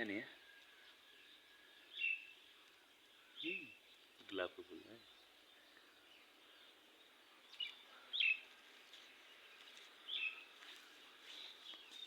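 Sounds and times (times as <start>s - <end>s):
faint outdoor background: 0.0s - 12.0s
small birds chirping: 0.0s - 12.0s.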